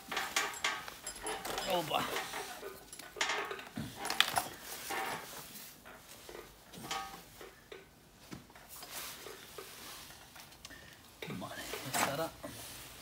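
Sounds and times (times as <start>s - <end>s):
metallic clinks and knocks: 0.0s - 10.6s.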